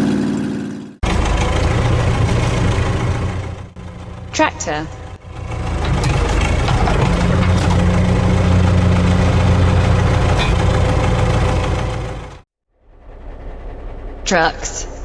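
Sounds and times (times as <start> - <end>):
tractor engine running: 0.0 - 12.4.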